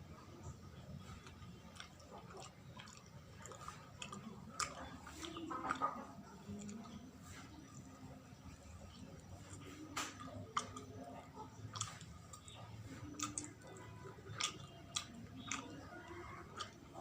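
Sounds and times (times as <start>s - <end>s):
person chewing sticky food: 0.1s - 17.0s.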